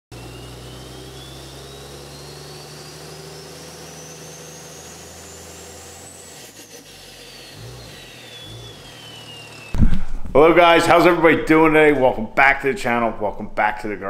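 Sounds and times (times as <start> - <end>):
engine running: 0.1 - 12.3.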